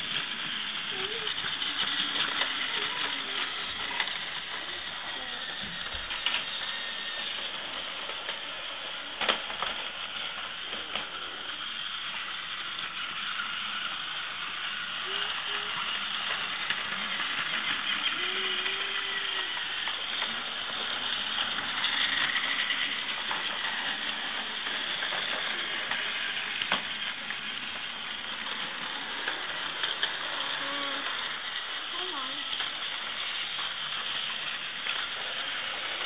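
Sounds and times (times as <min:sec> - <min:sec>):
toy train motors whirring: 0:00.0 - 0:36.0.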